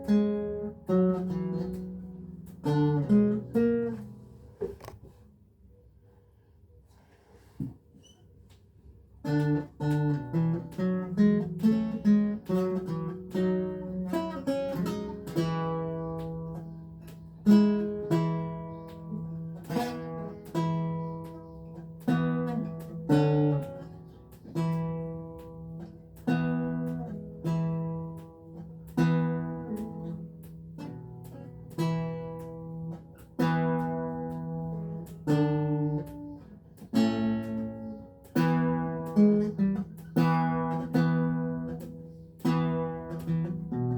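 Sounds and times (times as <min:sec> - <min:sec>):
lute plucked solo: 0:00.0 - 0:05.0, 0:09.2 - 0:43.9.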